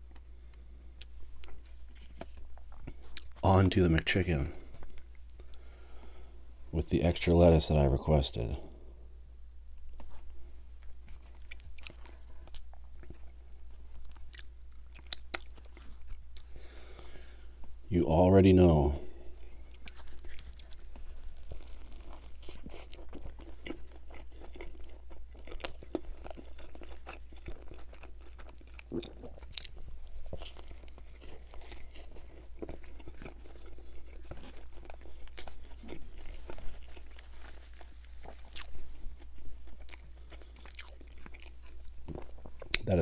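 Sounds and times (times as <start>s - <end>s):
chewing sandwich crunching: 0.0s - 5.8s, 9.7s - 17.8s, 18.9s - 43.0s.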